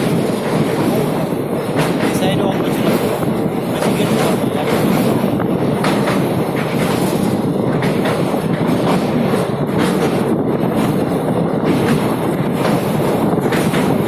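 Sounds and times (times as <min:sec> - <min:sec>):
rail joint clacks: 0:00.0 - 0:14.0
train wheels rumbling on rails: 0:00.0 - 0:14.0.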